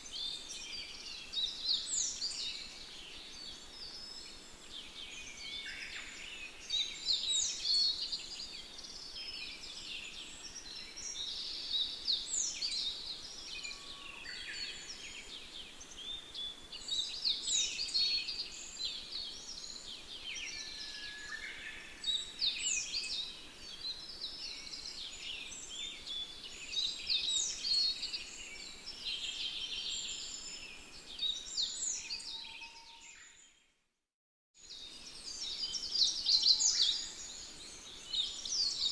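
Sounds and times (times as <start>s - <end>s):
faint outdoor hiss: 0.0s - 33.7s, 34.6s - 38.9s.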